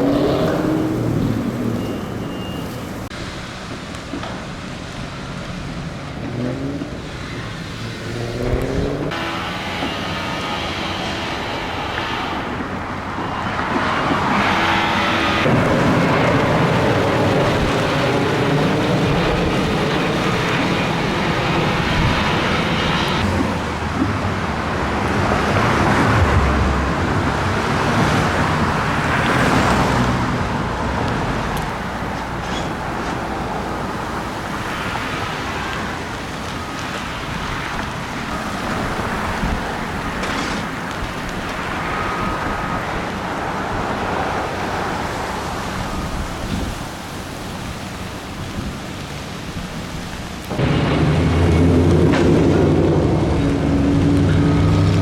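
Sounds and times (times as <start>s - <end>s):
cars passing: 0.0s - 49.1s, 50.2s - 55.0s.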